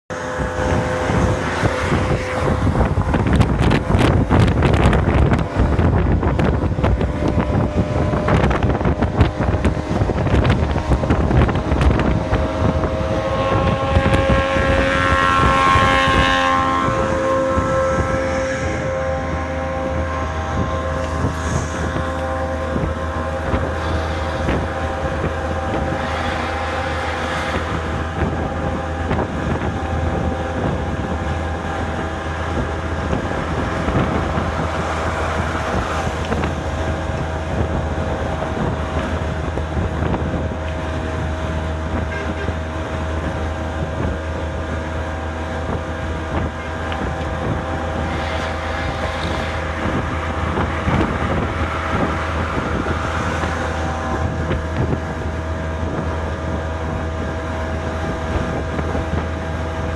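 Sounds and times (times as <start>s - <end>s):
truck engine from inside cab: 0.1s - 59.9s
wind noise: 0.1s - 59.9s.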